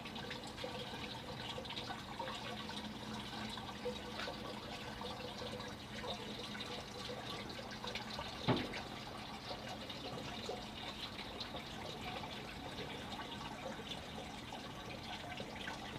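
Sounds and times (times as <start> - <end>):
water trickling and dripping: 0.0 - 15.9.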